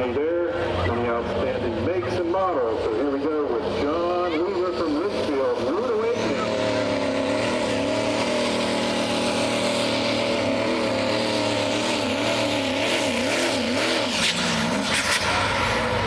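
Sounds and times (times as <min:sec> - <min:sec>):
diesel truck engine at full throttle: 0:00.0 - 0:16.0.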